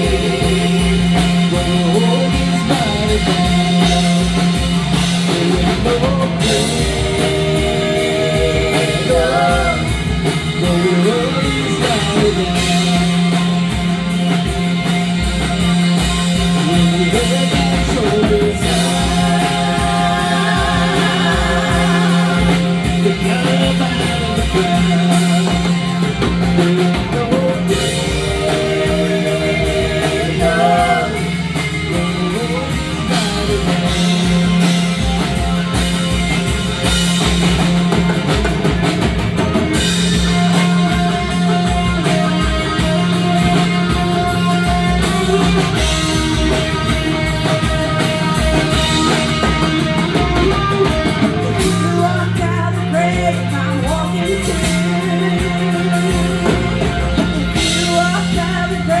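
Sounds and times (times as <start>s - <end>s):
rock band playing: 0.0s - 59.0s
wavering melodic lead: 0.0s - 59.0s.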